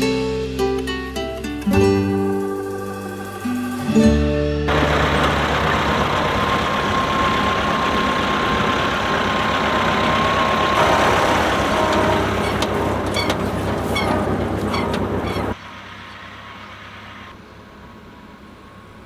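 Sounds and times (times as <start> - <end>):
tractor engine running: 2.4 - 19.0.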